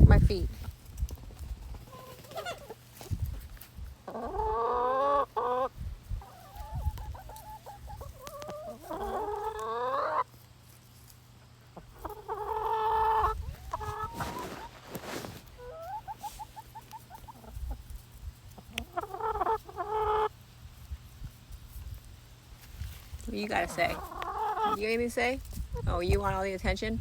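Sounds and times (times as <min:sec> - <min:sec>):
chickens calling: 0:00.0 - 0:26.6
chickens clucking: 0:00.1 - 0:26.8.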